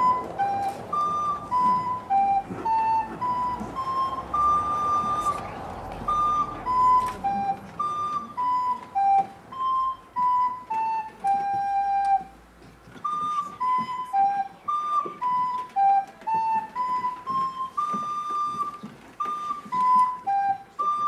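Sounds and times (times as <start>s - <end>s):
recorder playing melody: 0.0s - 21.0s.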